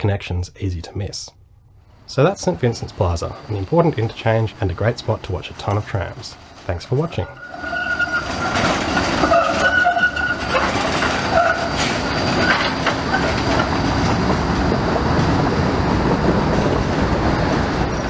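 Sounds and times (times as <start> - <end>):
tram rolling rumble: 0.0 - 18.0
tram wheels squealing: 2.5 - 18.0.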